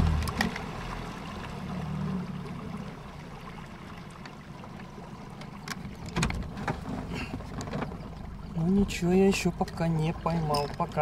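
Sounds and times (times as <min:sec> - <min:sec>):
waves lapping against boat: 0:00.0 - 0:11.0.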